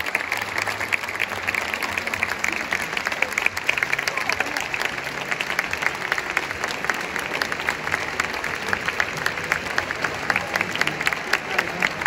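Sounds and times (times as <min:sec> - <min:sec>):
crowd applauding: 0:00.0 - 0:12.0
loud sharp claps: 0:00.0 - 0:12.0.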